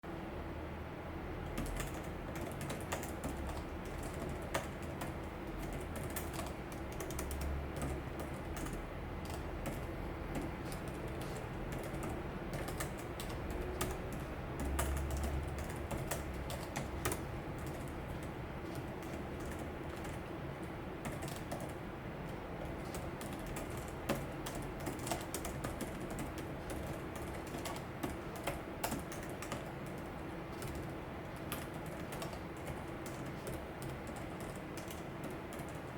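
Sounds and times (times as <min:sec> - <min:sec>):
keyboard typing: 0:01.4 - 0:35.9.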